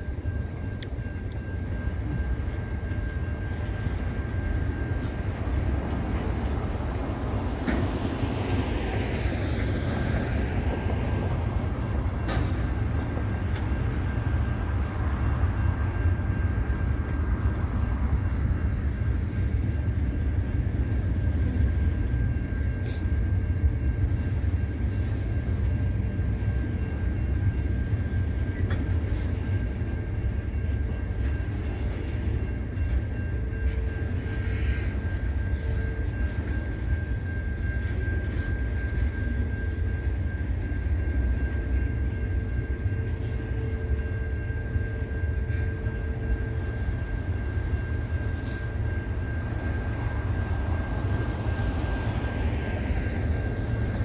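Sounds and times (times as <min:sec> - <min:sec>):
freight train wagons rumbling: 0:00.0 - 0:54.0.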